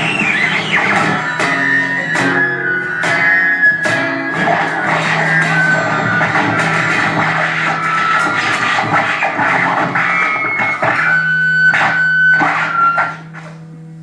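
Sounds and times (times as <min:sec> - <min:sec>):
experimental noise music: 0:00.0 - 0:14.0.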